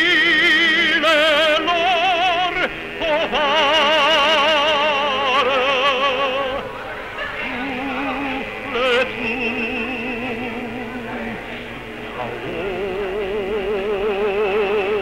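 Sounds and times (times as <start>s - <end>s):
man singing operatic style: 0.0s - 6.6s, 7.6s - 11.1s, 12.4s - 15.0s.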